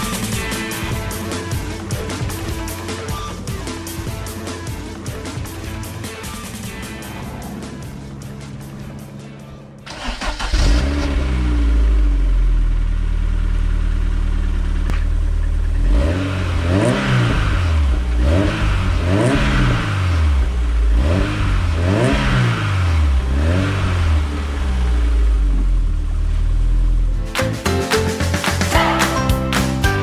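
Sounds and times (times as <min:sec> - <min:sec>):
car engine revving: 0:00.0 - 0:27.2
car engine idling: 0:00.0 - 0:27.3.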